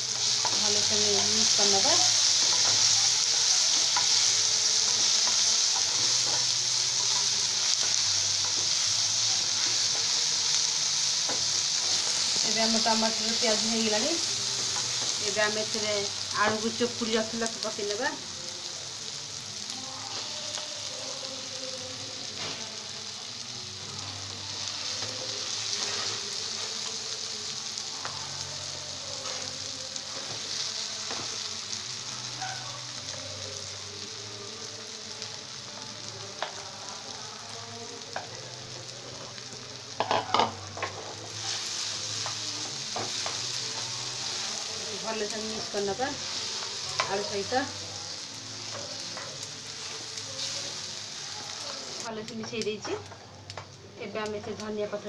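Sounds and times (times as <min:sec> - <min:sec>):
vegetables sizzling in oil: 0:00.0 - 0:55.0.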